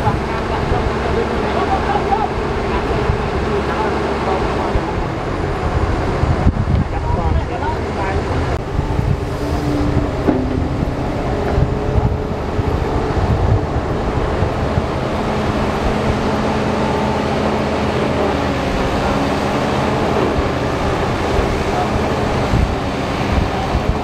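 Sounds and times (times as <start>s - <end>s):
diesel engine rumbling under load: 0.0s - 24.0s.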